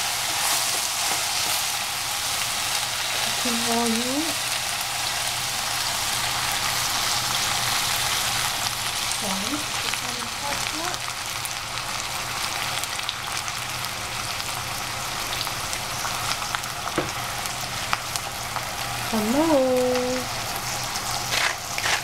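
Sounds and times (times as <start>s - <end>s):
oil crackling and popping: 0.0s - 19.0s, 19.6s - 22.0s
vegetables sizzling in oil: 0.0s - 22.0s.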